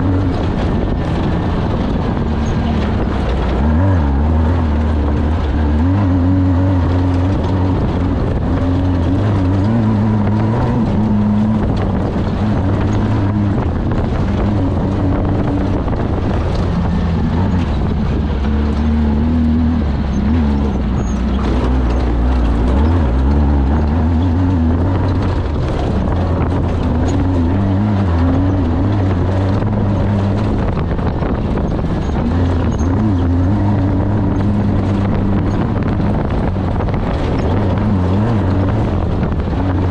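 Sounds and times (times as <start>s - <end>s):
race vehicle engine revving: 0.0s - 39.9s.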